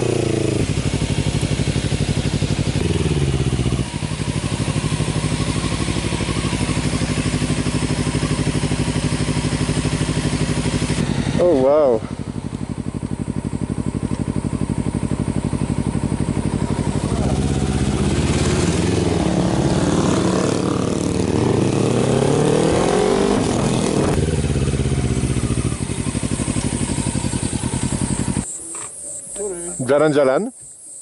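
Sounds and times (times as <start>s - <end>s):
motorcycle engine running: 0.0s - 28.5s.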